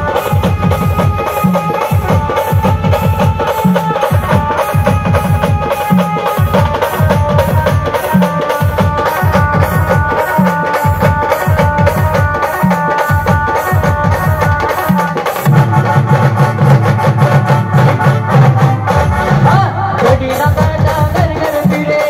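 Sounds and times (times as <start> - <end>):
drum beat: 0.0 - 22.0.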